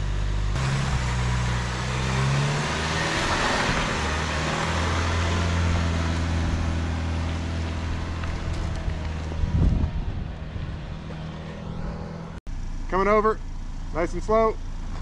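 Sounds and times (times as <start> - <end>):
tyres on dirt: 0.0 - 12.4
vehicle engine humming: 0.0 - 15.0.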